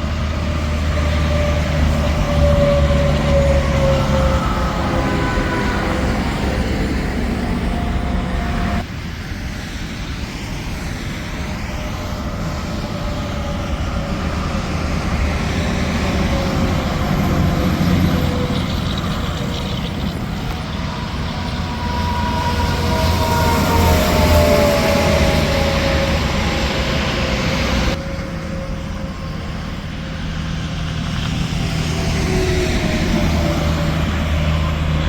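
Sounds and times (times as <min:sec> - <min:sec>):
constant traffic rumble: 0:00.0 - 0:35.0
trucks passing by: 0:00.0 - 0:35.0.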